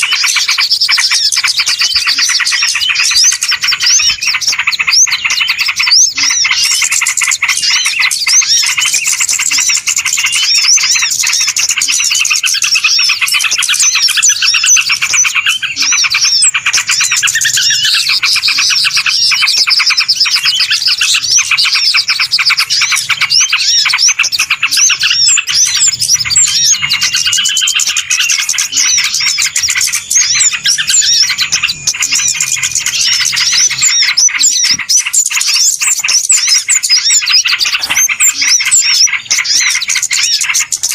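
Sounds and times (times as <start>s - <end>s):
chorus of small birds chirping: 0.0s - 40.9s.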